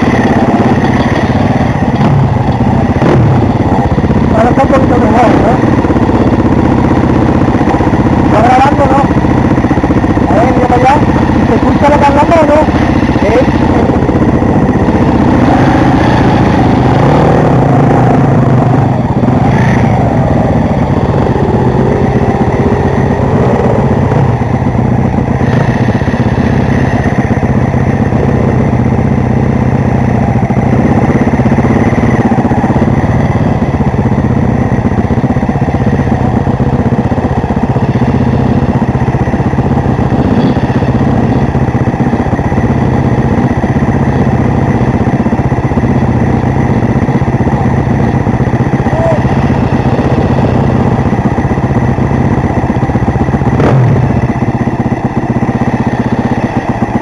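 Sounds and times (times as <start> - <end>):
motorcycle engines running: 0.0 - 57.0.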